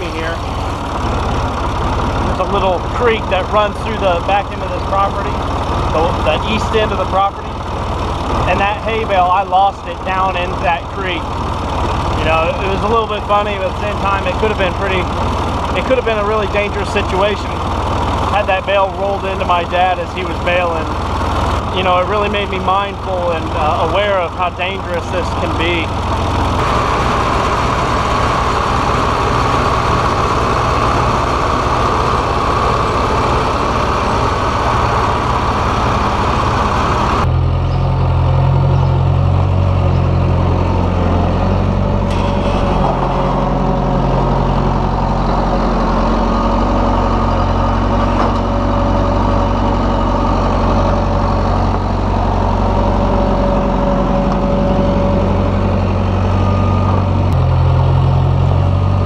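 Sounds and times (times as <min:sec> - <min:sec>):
skid-steer loader engine droning: 0:00.0 - 0:59.0
tractor running: 0:00.0 - 0:59.0.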